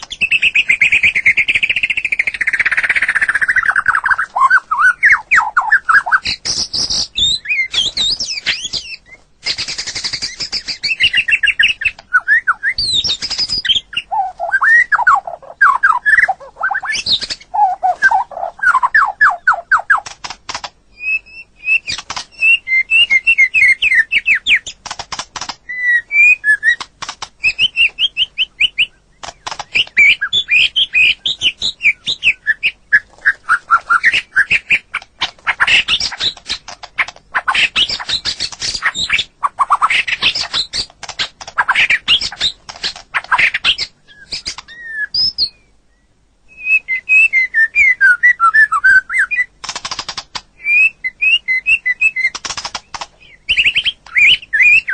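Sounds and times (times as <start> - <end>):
bird whistling song: 0.0 - 20.1, 20.9 - 24.8, 25.6 - 49.7, 50.6 - 54.9
bird harsh chattering: 0.0 - 45.5, 48.2 - 54.9.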